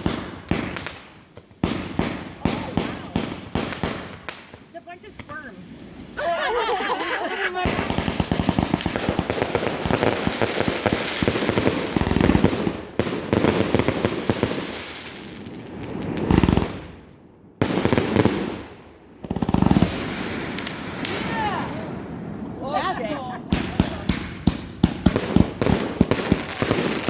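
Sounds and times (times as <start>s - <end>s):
firework shells booming: 0.0s - 27.0s
fireworks crackling: 0.0s - 27.0s.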